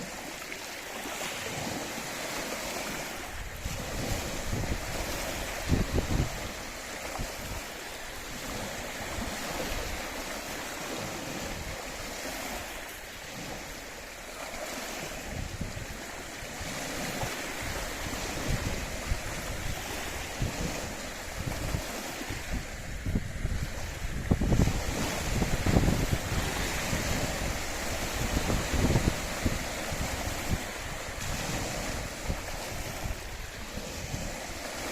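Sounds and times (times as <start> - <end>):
small waves washing: 0.0 - 34.9
wind buffeting microphone: 1.0 - 13.9, 14.5 - 34.9.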